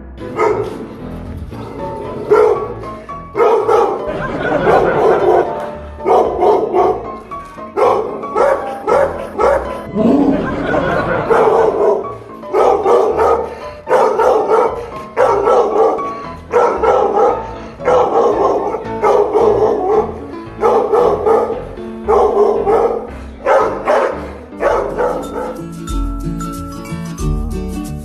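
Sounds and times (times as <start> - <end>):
background music: 0.0 - 28.0
dog barking: 0.3 - 0.9, 2.1 - 9.9, 11.0 - 25.6.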